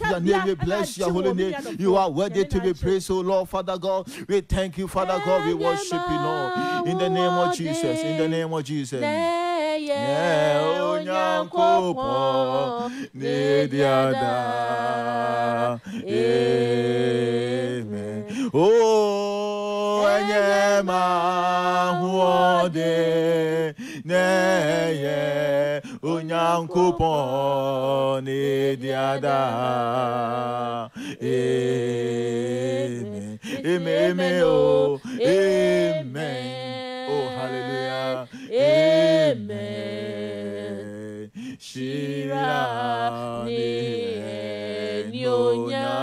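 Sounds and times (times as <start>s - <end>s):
man and woman chanting prayer: 0.0s - 46.0s.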